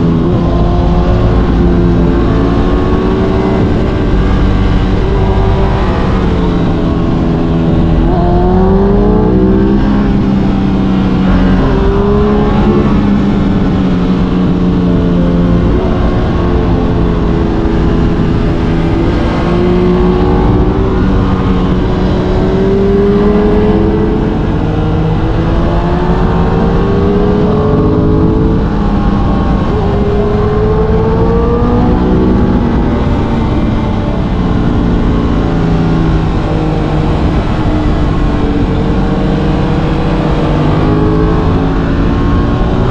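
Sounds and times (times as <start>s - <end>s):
motorcycle engine accelerating: 0.0s - 42.9s
wind and road noise: 0.0s - 42.9s.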